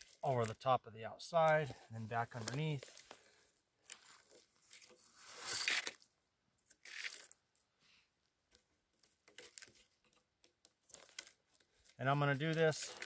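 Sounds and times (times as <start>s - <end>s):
cord rustling and scraping on wood: 0.0s - 0.6s, 1.4s - 7.7s, 8.5s - 13.0s.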